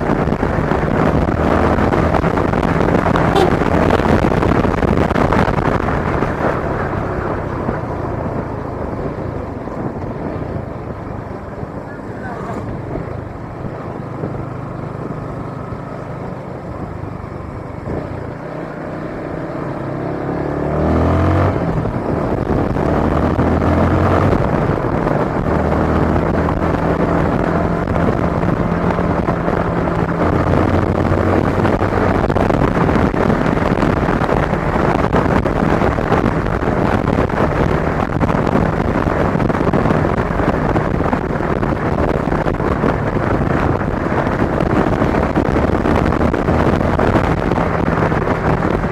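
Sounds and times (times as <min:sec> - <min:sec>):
dense rushing noise: 0:00.0 - 0:48.9.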